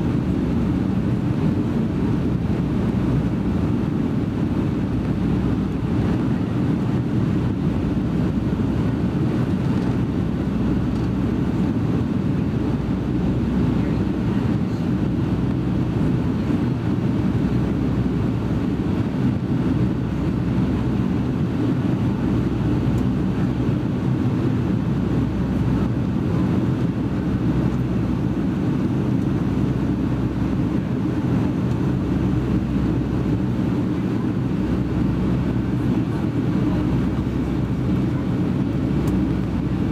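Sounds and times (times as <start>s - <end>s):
jet engines and airflow: 0.0s - 39.9s.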